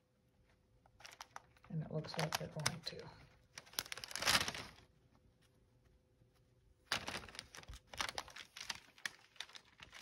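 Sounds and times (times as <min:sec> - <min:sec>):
paper and fabric rustling: 0:00.9 - 0:10.0.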